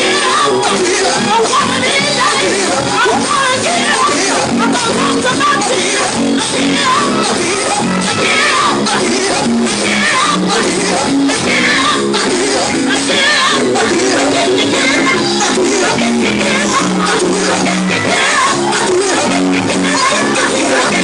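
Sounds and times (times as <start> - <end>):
live gospel band: 0.0 - 21.0
voices singing and calling out: 0.0 - 21.0.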